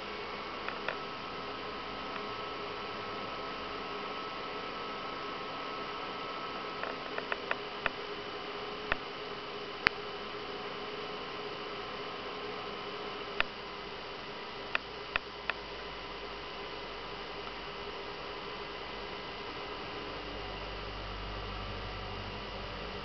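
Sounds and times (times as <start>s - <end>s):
projector cooling fan running: 0.0s - 23.0s.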